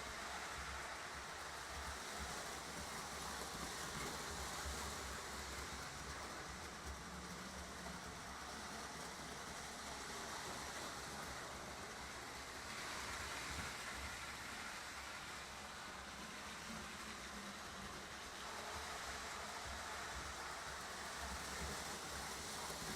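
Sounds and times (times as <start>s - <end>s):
model train motors whirring: 0.0s - 22.9s.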